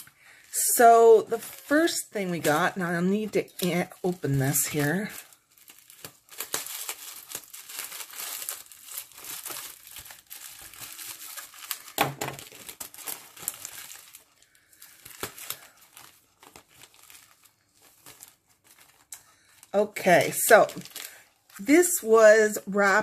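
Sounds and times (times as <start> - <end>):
plastic packaging crinkling and tearing: 0.0 - 23.0.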